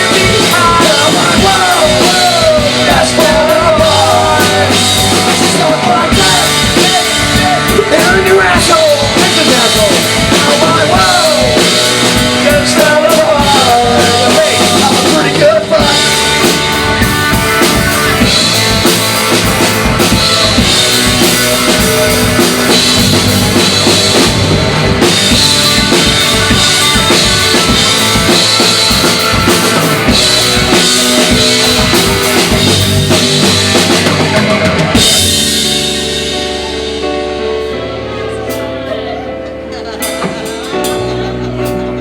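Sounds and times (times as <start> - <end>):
drums: 0.0 - 42.0
rock band playing: 0.0 - 42.0.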